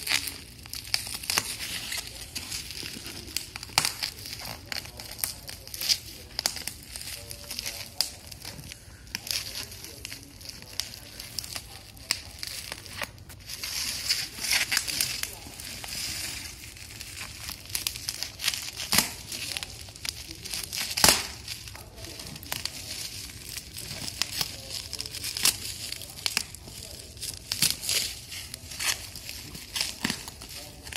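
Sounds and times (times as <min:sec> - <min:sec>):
plastic packing crinkling: 0:00.0 - 0:30.9.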